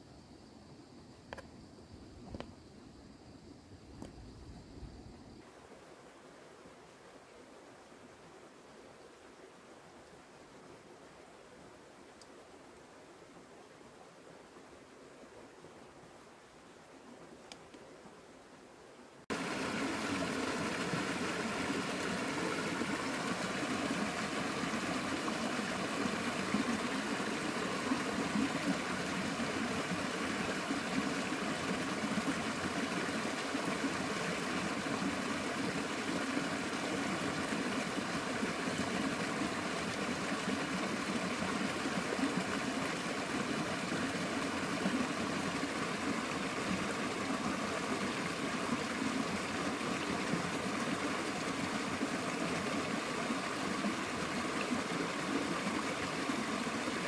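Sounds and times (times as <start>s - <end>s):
stream flowing over rocks: 5.4s - 57.0s.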